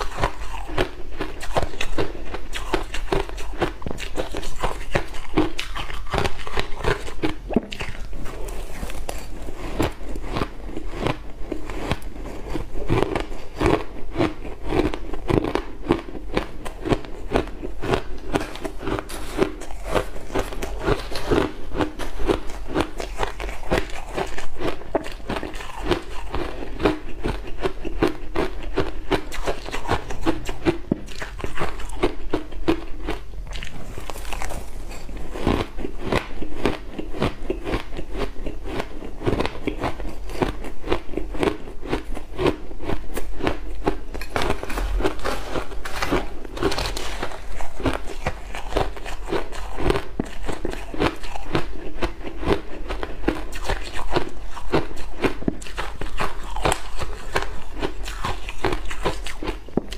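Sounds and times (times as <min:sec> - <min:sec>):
crunching ice chewing: 0:00.0 - 0:59.9.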